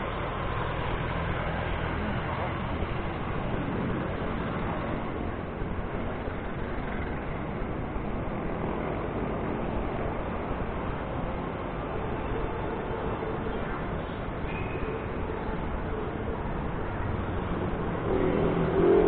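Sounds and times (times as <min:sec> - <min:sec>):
engines running close by: 0:00.0 - 0:19.0
road traffic noise: 0:00.0 - 0:19.0.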